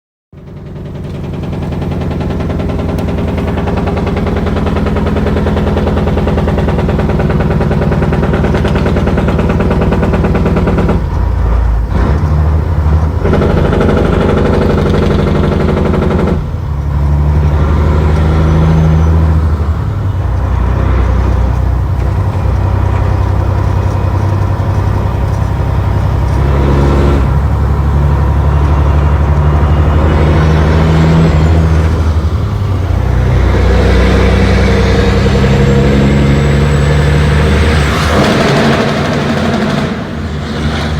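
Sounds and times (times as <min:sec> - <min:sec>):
diesel engine revving: 0:00.4 - 0:40.9.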